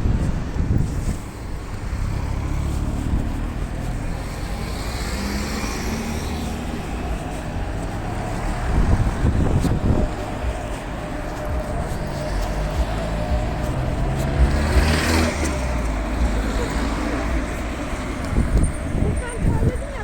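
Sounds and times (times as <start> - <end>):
low engine rumble: 0.0 - 20.0
vehicle whoosh: 0.0 - 20.0.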